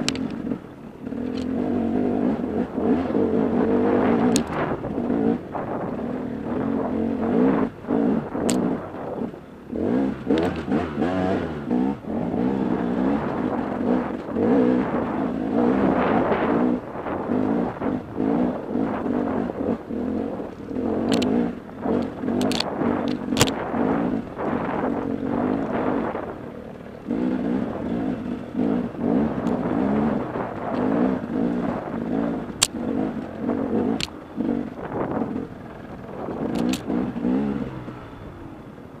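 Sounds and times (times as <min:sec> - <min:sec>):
dirt bike engine revving: 0:00.0 - 0:38.7.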